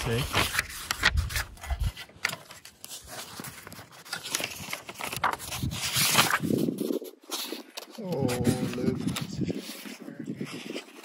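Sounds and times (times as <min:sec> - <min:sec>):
paper pages flipping: 0:00.0 - 0:11.0.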